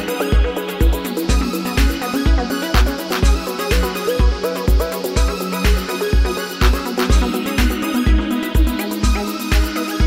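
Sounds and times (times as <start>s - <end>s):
synth melody: 0.0s - 9.0s
kick drum: 0.0s - 10.0s.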